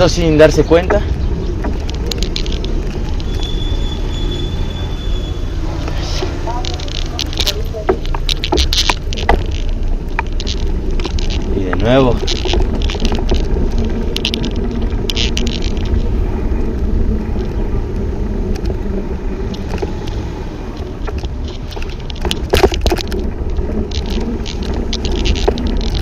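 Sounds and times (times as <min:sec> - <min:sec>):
wind buffeting microphone: 0:00.0 - 0:05.6, 0:06.3 - 0:26.0
bicycle rattling: 0:00.0 - 0:26.0
road traffic: 0:00.0 - 0:26.0.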